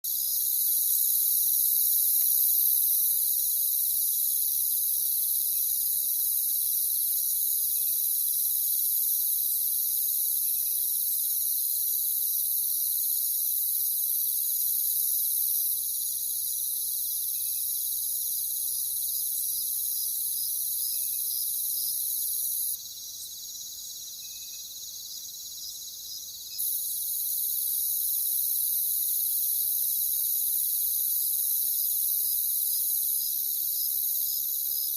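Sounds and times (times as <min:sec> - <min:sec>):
high-pitched insect chorus: 0:00.1 - 0:34.9.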